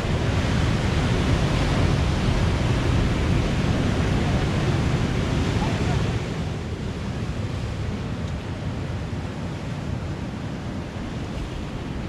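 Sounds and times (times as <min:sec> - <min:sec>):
ocean surf on rocky shore: 0:00.0 - 0:12.0
wind rumbling on microphone: 0:00.0 - 0:12.0.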